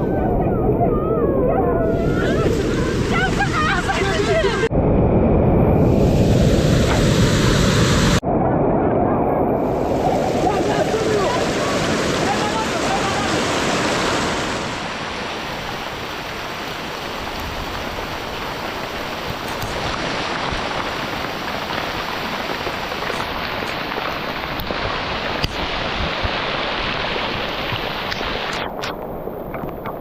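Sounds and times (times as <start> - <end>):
steady water noise: 0.0 - 30.0.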